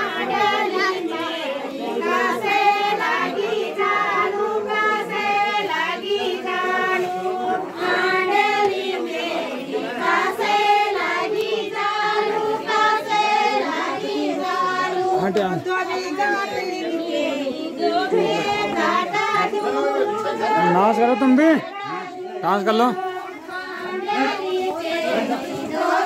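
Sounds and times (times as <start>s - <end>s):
women singing folk song: 0.0s - 26.0s.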